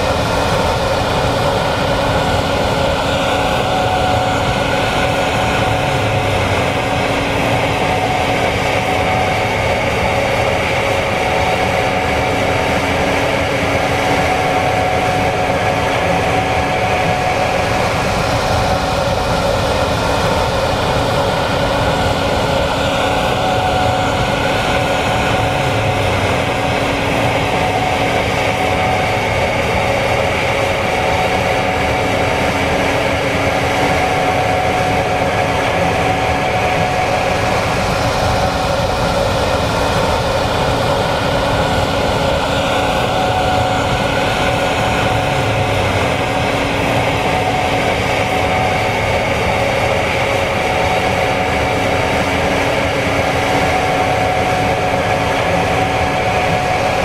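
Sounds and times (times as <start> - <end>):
combine harvester engine rushing: 0.0 - 57.0
machinery whines: 0.0 - 57.0.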